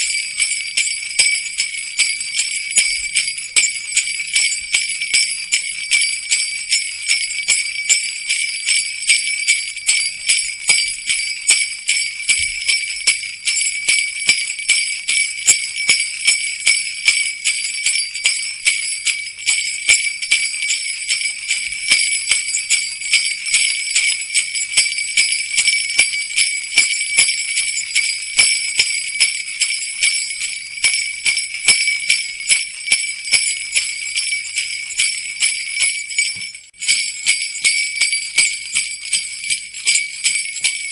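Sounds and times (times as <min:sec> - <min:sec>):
jingle bells shaking: 0:00.0 - 0:40.9.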